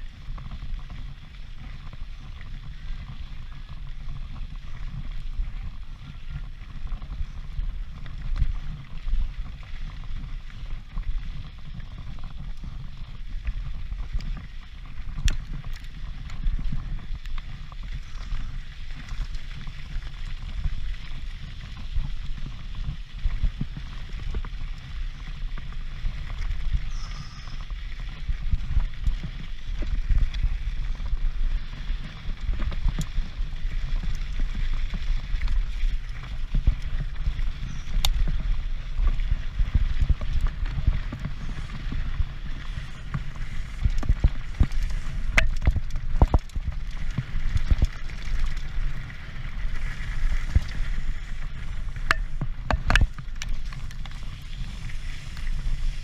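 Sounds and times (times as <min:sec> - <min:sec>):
bike clicks and rattles: 0:00.0 - 0:56.0
wind buffeting microphone: 0:00.0 - 0:56.0.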